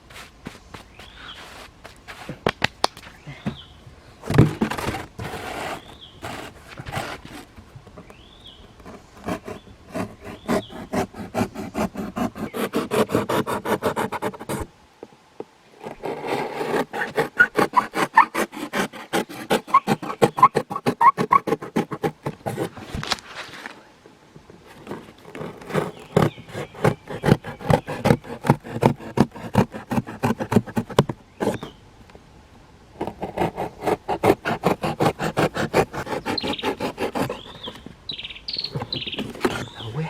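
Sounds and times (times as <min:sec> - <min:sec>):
hand tool scraping wood: 0:00.0 - 0:02.7, 0:04.2 - 0:14.7, 0:15.8 - 0:23.8, 0:24.5 - 0:31.8, 0:33.0 - 0:40.0.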